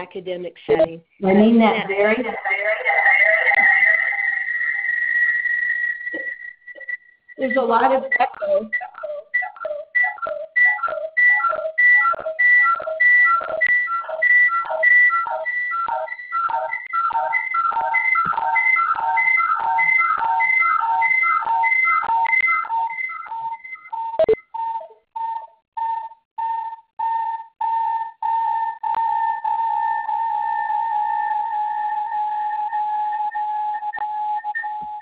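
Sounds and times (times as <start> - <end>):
pulsing feedback whistle: 2.5 - 35.0.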